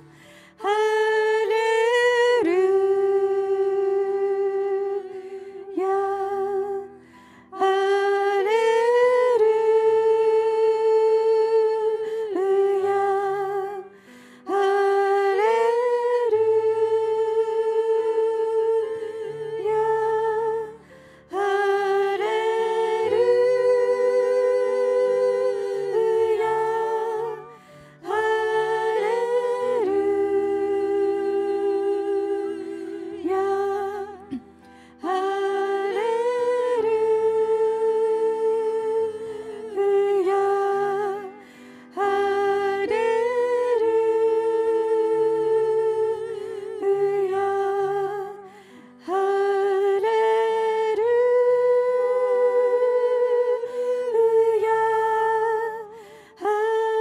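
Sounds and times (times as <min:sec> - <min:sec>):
women singing worship chorus: 0:00.0 - 0:57.0.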